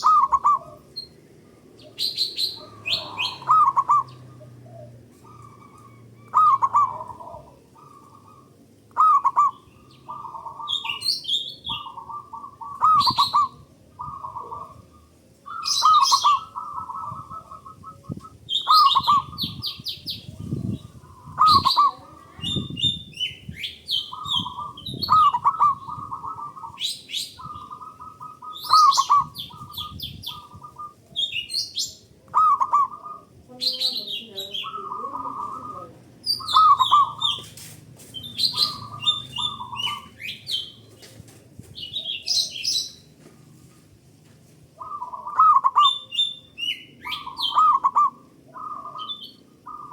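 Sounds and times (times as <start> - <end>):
dove cooing: 0.0 - 43.8, 44.7 - 49.9.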